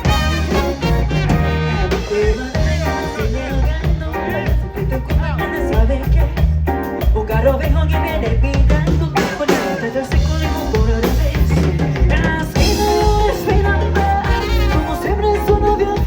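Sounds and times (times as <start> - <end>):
drum kit beat: 0.0 - 16.0
latin pop band playing: 0.0 - 16.0.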